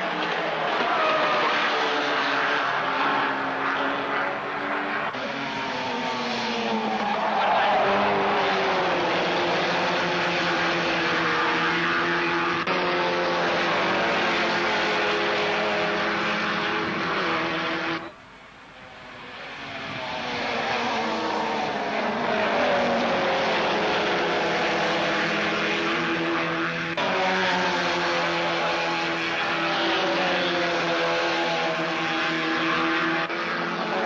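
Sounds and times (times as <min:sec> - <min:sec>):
race car engines at high revs: 0:00.0 - 0:34.0.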